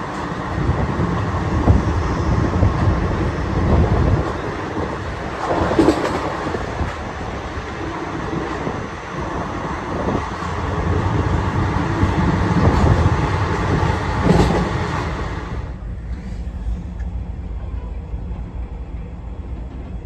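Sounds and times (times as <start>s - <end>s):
train clank: 0.0s - 18.0s
train wheels rumbling on rails: 0.0s - 20.0s.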